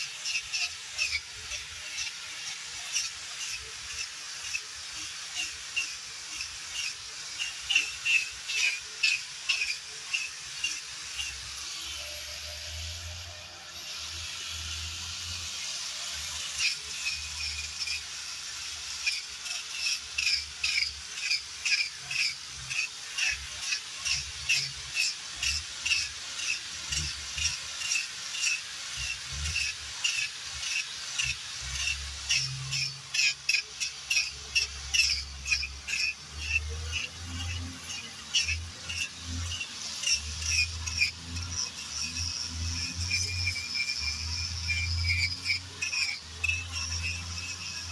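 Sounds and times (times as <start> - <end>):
wire brush scrubbing wood: 0.0 - 12.9, 14.6 - 47.9.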